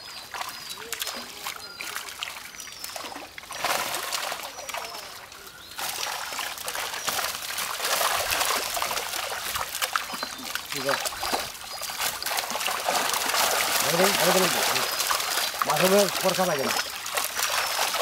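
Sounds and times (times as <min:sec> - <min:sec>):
water splashing and trickling: 0:00.0 - 0:18.0.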